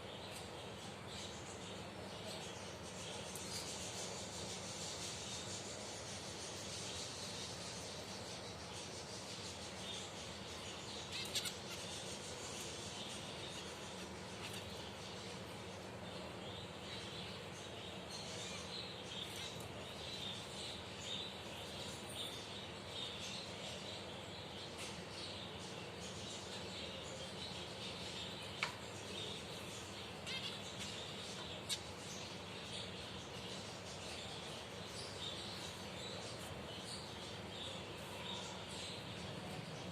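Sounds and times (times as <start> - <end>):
finches chirping: 0.0 - 39.9
steady background hiss: 0.0 - 39.9.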